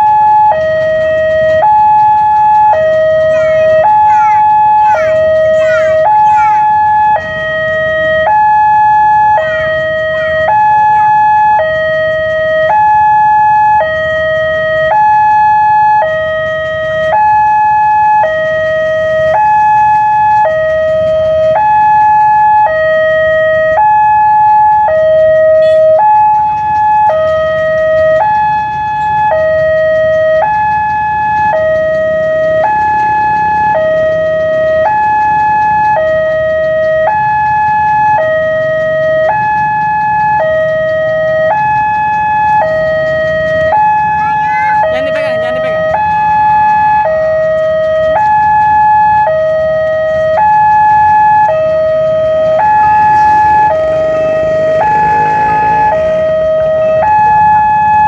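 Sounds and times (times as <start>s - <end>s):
two-tone crossing alarm: 0.0s - 58.0s.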